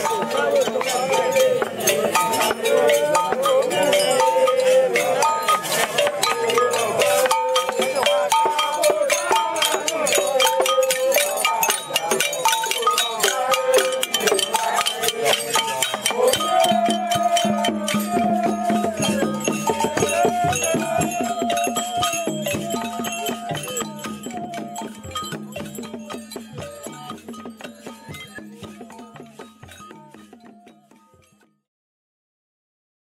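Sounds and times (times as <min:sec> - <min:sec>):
rattles fast rhythm: 0:00.0 - 0:31.4.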